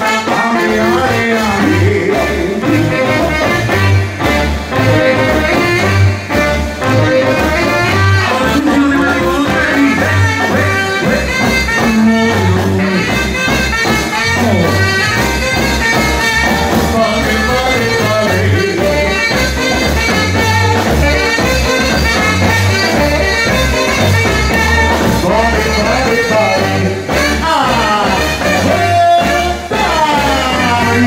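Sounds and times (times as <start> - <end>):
drum kit beat: 0.0 - 31.0
wind instrument melody: 0.0 - 31.0.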